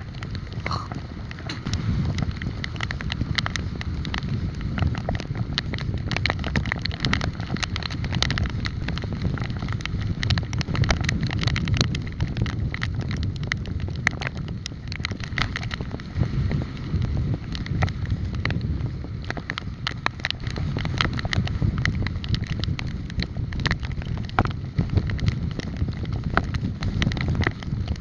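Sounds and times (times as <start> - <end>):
small clicks and rattles: 0.0 - 28.0
wind buffeting microphone: 0.0 - 28.0.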